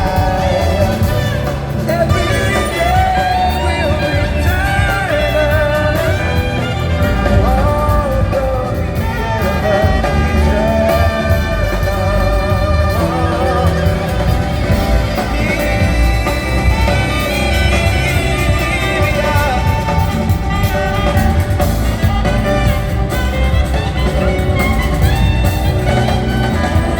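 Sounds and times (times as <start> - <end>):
band playing live: 0.0 - 26.9
lead singer singing: 0.0 - 26.9.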